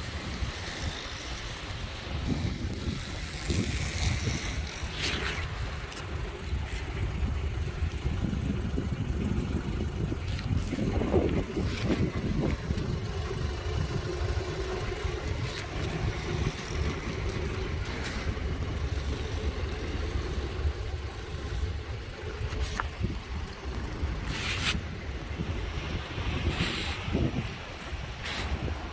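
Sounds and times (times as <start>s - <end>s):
wind on microphone: 0.0s - 28.9s
car engine idling: 0.1s - 28.9s.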